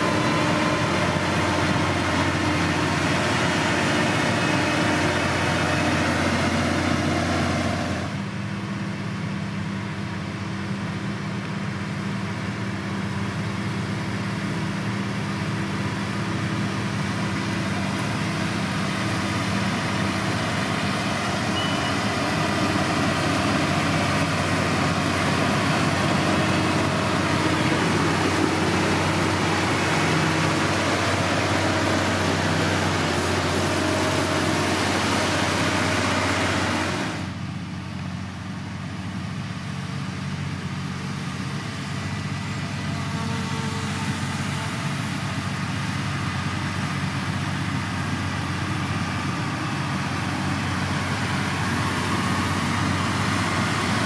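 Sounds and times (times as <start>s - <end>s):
loud rushing grinding noise: 0.0s - 8.4s, 13.0s - 37.4s, 41.1s - 54.0s
heavy diesel engine running: 0.0s - 54.0s.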